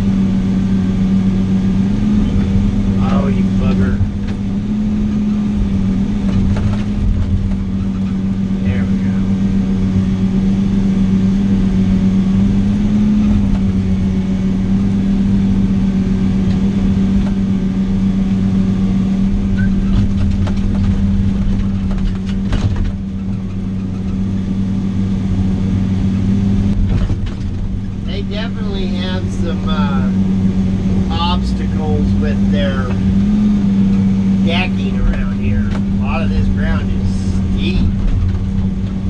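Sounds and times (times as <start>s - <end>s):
vehicle engine running steadily: 0.0s - 39.0s.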